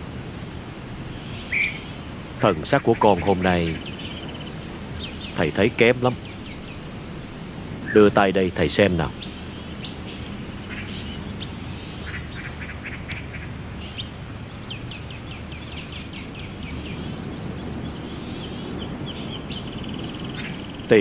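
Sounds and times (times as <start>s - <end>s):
low background noise: 0.0s - 21.0s
small birds chirping: 0.0s - 21.0s.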